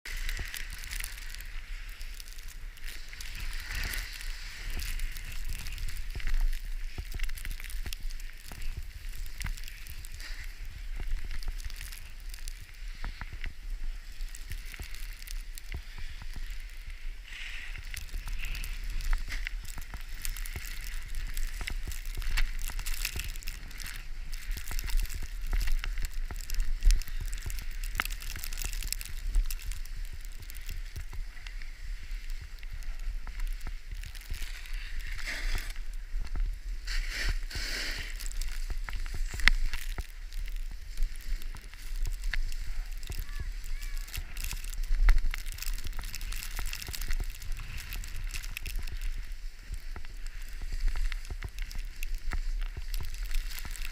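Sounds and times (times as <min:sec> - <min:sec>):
wind rumbling on microphone: 0:00.0 - 0:53.9
skis scraping over snow: 0:00.1 - 0:53.9.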